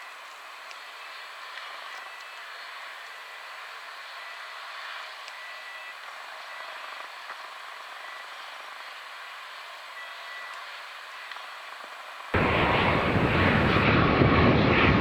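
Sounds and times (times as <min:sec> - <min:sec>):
steady ambient hiss: 0:00.0 - 0:13.8.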